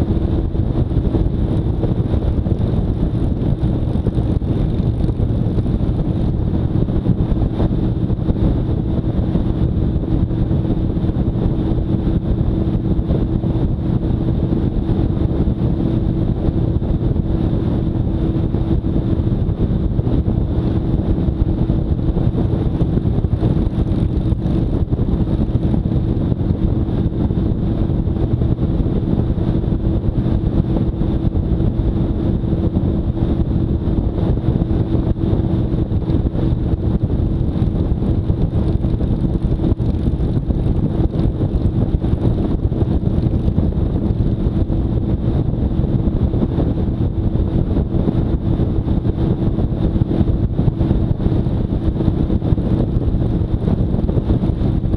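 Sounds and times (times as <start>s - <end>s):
motorcycle engine droning: 0.0s - 54.9s
wind rush on microphone: 0.0s - 54.9s.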